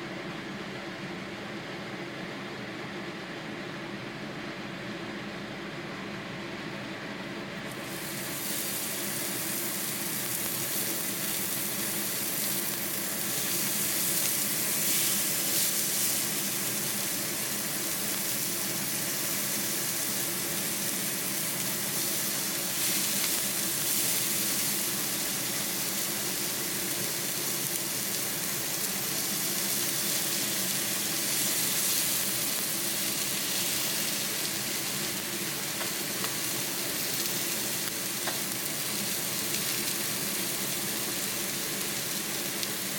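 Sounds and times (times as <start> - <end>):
meat sizzling on a grill: 7.7 - 42.9.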